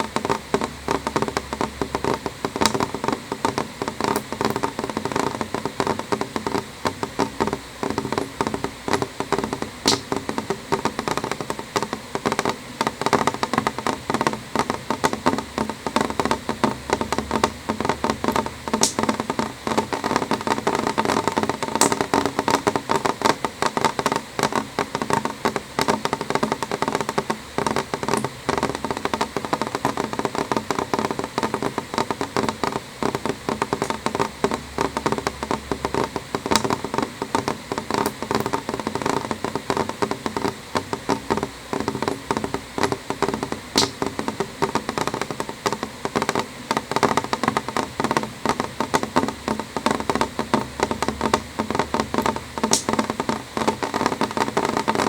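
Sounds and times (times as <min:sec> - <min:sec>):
rain tapping on window glass: 0:00.0 - 0:55.0.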